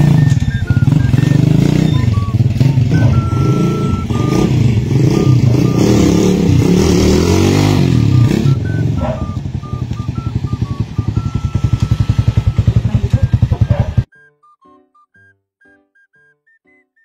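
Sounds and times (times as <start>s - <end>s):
motorcycle engine revving and idling: 0.0s - 14.1s.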